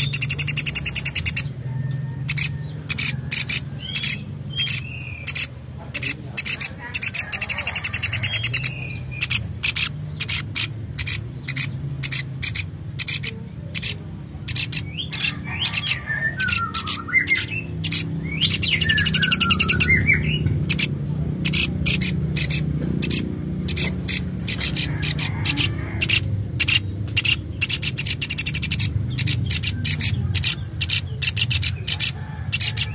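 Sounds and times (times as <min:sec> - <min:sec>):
bird chirping and calling: 0:00.0 - 0:32.9.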